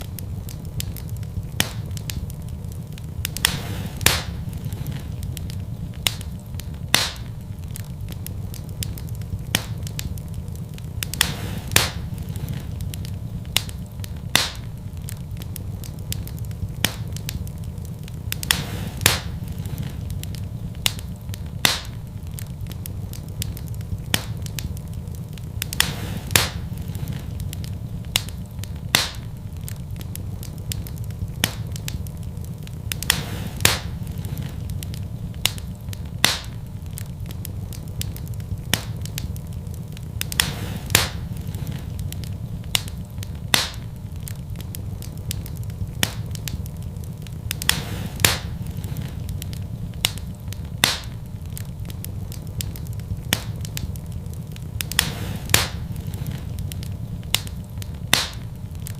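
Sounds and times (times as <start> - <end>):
fire popping and snapping: 0.0 - 58.9
wood fire crackling: 0.0 - 58.9.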